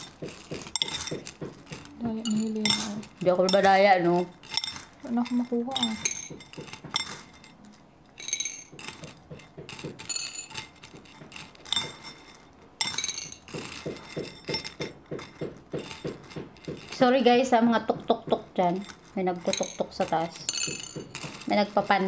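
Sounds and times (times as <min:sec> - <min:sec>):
hammering on floor above: 0:00.0 - 0:03.9, 0:08.2 - 0:22.0.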